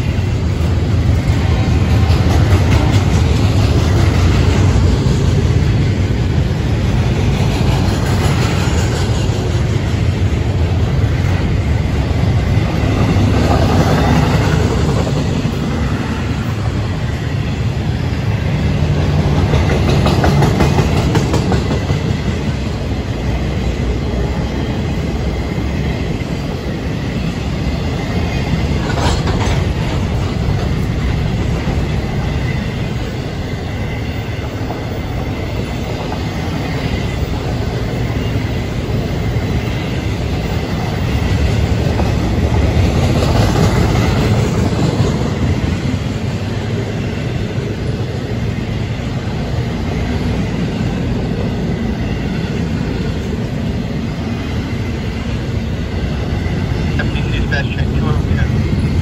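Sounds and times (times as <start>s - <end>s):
steel wheels on rails: 0.0s - 59.0s.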